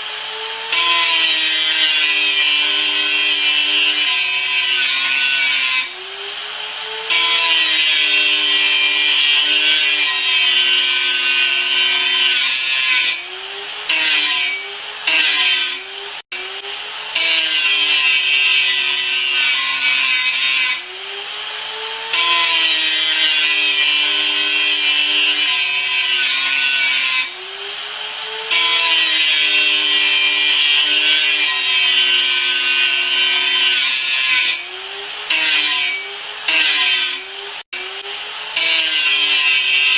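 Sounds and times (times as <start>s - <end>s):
grinder motor whine: 0.0s - 20.0s, 20.7s - 39.9s
electric grinder grinding: 0.0s - 39.9s.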